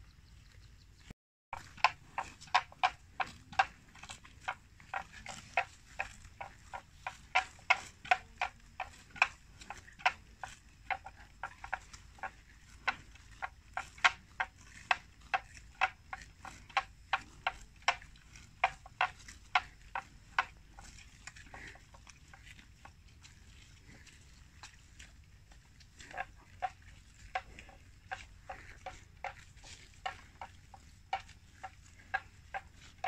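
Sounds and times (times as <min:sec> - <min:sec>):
buffalo chewing with crunching clicks: 0:00.0 - 0:33.0.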